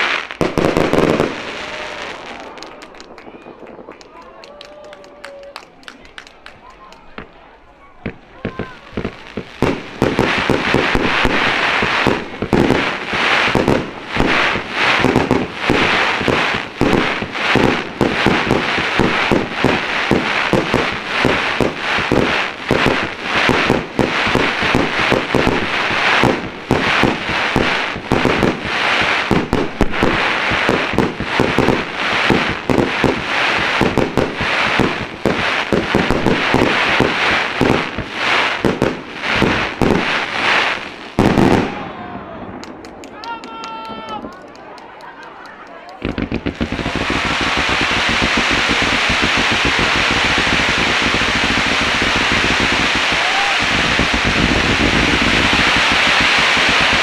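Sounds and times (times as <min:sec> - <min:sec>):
fireworks bursting in a barrage: 0:00.0 - 0:57.0.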